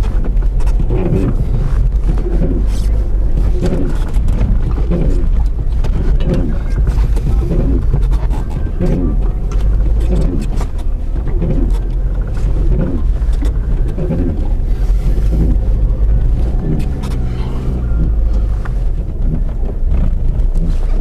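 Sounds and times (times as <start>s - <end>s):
car engine running: 0.0s - 21.0s
road rumble: 0.0s - 21.0s.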